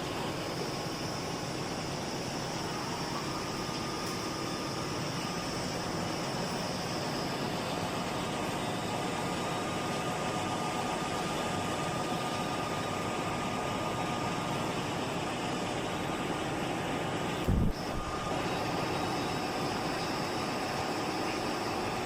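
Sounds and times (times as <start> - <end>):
machine tool hissing with whine: 0.0 - 22.0.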